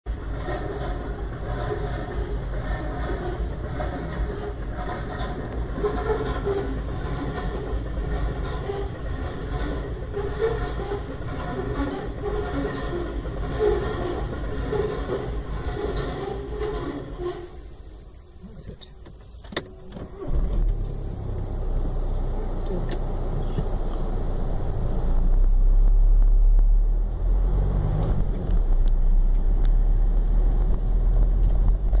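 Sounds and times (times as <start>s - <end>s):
car engine rumble: 0.0s - 32.0s.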